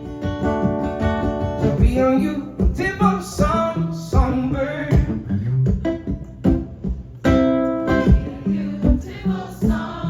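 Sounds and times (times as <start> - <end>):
guitar: 0.0 - 10.0
live band music: 0.0 - 10.0.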